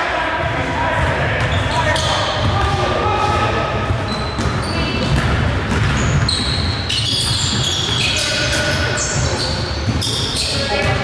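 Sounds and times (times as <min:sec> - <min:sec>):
rumble of gym hall: 0:00.0 - 0:11.0
basketball bouncing: 0:00.4 - 0:11.0
sneakers squeaking on court: 0:01.0 - 0:11.0.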